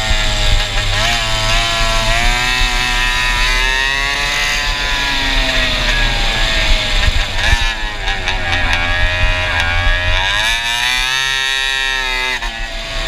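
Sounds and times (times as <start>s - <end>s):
wind on microphone: 0.0s - 12.9s
go-kart engine revving: 0.0s - 13.0s.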